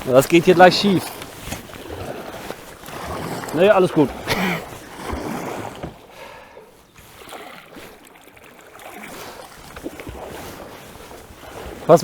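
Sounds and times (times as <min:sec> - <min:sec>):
river water trickling: 0:00.0 - 0:12.0.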